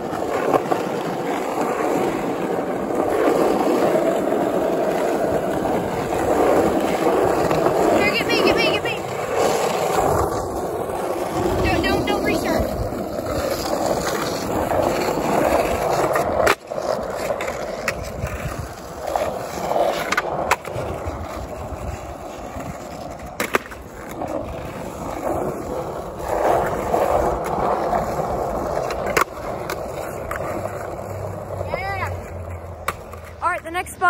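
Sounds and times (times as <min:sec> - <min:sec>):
skateboard clacks: 0:00.0 - 0:33.9
skateboard wheels rolling on asphalt: 0:00.0 - 0:34.0.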